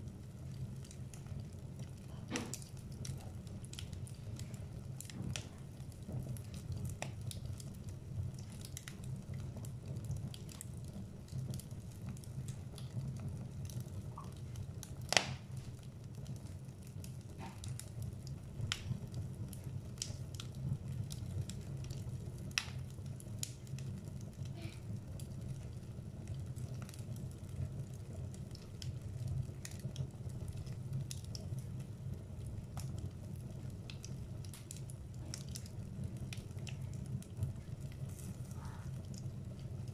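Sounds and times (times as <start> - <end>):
fire rumbling: 0.0 - 39.9
logs crackling and popping: 0.0 - 39.9.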